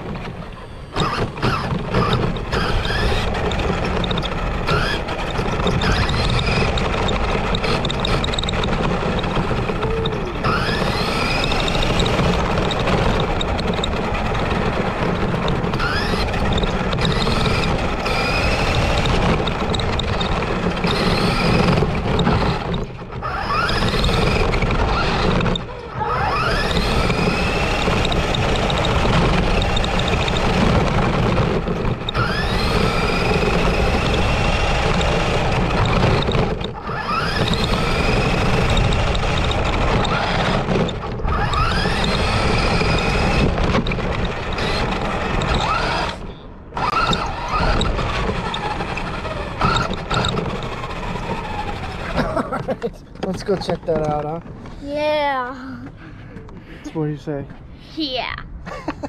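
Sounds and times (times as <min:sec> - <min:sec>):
rc truck motor whine: 0:00.0 - 0:52.6
tyres rumbling on concrete: 0:00.0 - 0:57.7.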